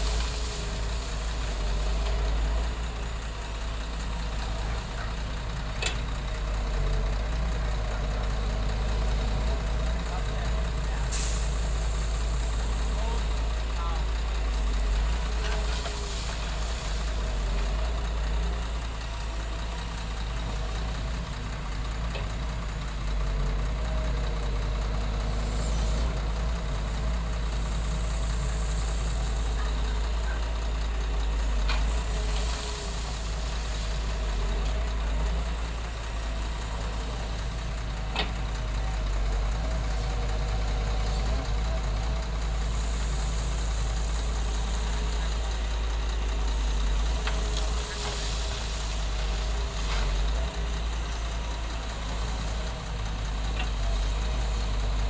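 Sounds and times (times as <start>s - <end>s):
excavator diesel engine humming: 0.0s - 55.0s.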